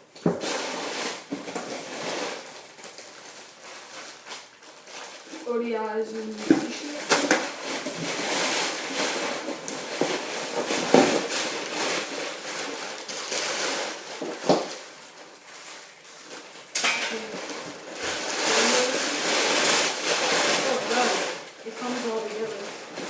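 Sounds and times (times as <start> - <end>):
wrapping rustling: 0.0 - 23.0.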